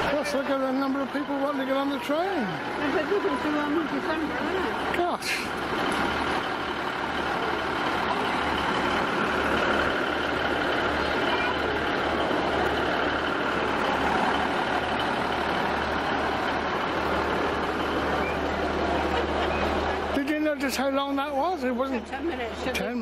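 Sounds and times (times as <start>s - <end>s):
diesel train engine idling: 0.0s - 23.0s.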